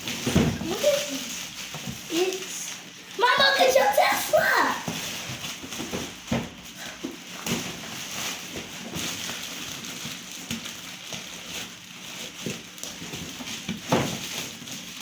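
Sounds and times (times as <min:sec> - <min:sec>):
toy packaging knocks and rustling: 0:00.0 - 0:02.5, 0:03.2 - 0:15.0.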